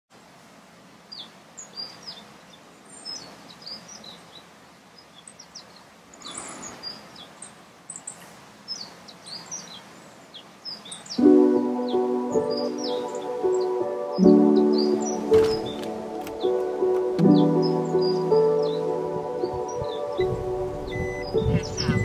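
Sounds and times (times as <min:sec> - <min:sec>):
faint outdoor hiss: 0:00.1 - 0:22.0
small birds chirping: 0:01.0 - 0:22.0.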